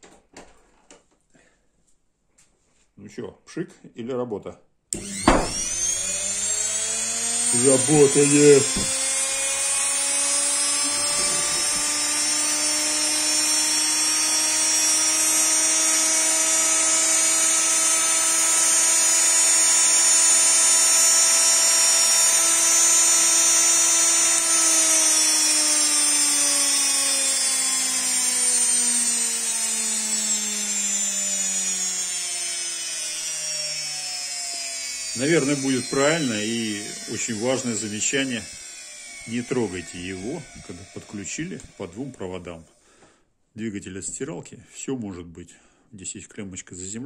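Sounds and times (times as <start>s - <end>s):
electric motor whining: 5.0s - 42.8s.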